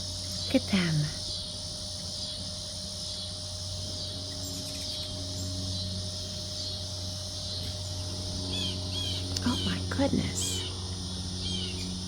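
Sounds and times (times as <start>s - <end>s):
insects chorus: 0.0s - 12.0s
low steady hum: 0.0s - 12.0s.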